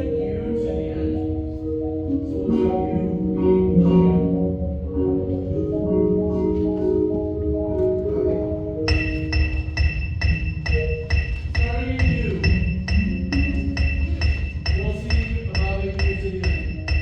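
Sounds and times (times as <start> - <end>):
marimbas and vibraphones playing chords: 0.0 - 17.0.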